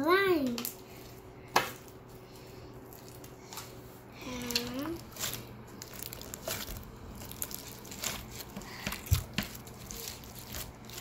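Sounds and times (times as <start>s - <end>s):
slime squelching and crackling: 0.4s - 11.0s.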